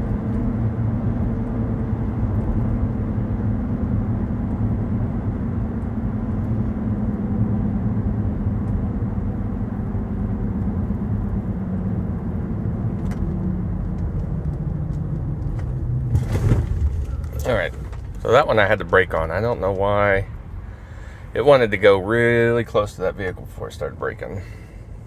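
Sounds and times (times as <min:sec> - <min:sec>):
drivetrain drone: 0:00.0 - 0:25.0
tyre and road rumble: 0:00.0 - 0:25.0.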